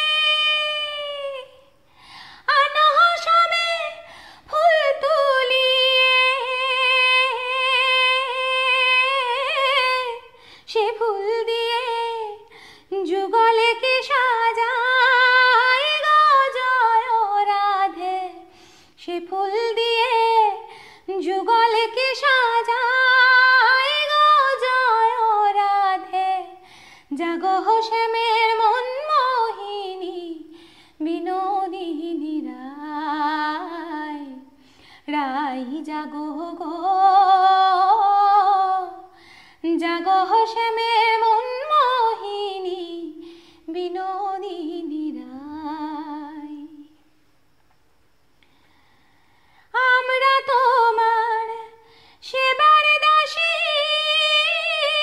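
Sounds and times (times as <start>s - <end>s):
woman singing unaccompanied: 0.0s - 1.8s, 2.4s - 47.0s, 49.7s - 55.0s.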